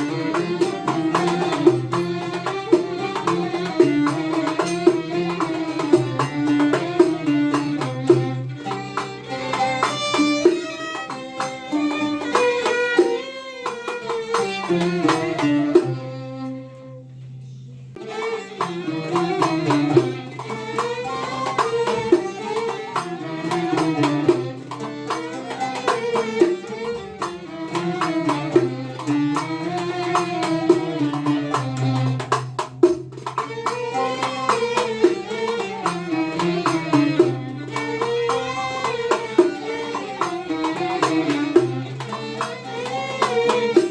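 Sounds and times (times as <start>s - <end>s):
hand percussion: 0.0s - 16.5s, 17.9s - 43.9s.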